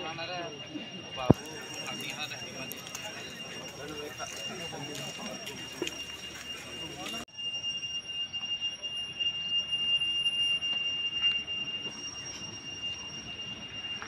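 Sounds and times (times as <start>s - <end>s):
high-pitched whine: 0.0s - 14.0s
outdoor background noise: 0.0s - 14.0s.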